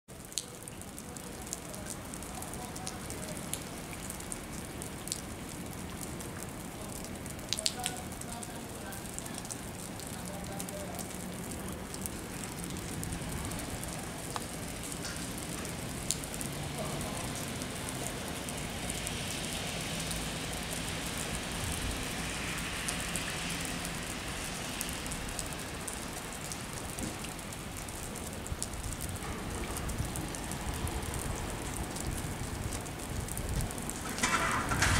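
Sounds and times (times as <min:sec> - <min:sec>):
light rain hiss: 0:00.1 - 0:34.9
raindrops ticking: 0:00.1 - 0:34.9.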